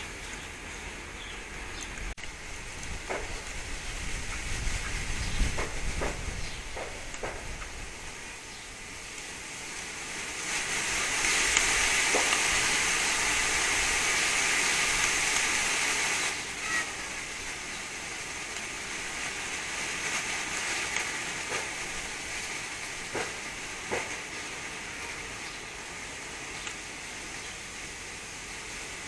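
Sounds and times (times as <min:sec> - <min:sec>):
wind gusting: 0:00.0 - 0:24.8.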